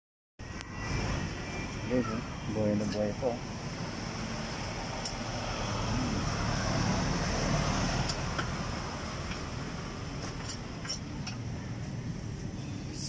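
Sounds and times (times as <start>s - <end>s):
street traffic rumble: 0.4s - 13.0s.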